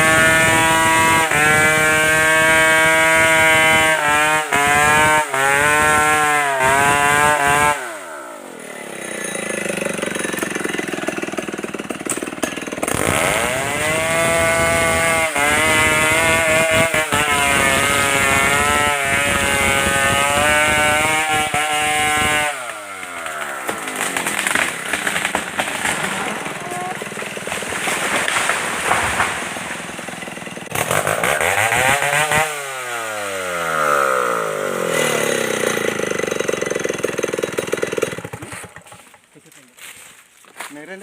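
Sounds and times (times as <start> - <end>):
chainsaw revving and idling: 0.0 - 41.0.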